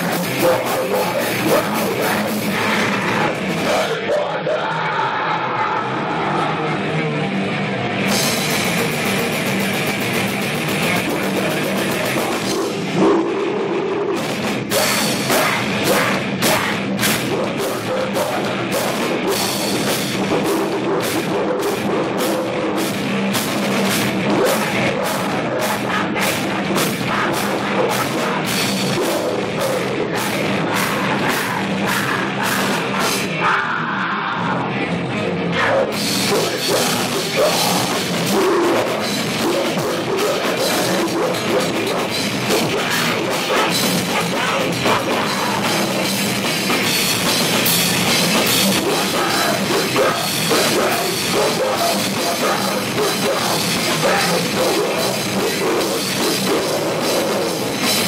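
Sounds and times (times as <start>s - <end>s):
electric guitars: 0.0s - 58.0s
rock band playing loudly: 0.0s - 58.0s
hard drum strikes: 8.1s - 33.4s, 36.0s - 58.0s.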